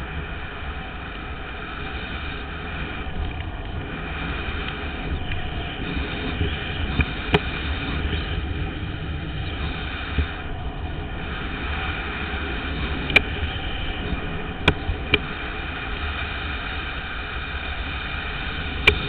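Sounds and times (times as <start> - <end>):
longboard wheels rolling on asphalt: 0.0 - 19.0
wind buffeting microphone: 0.0 - 19.0.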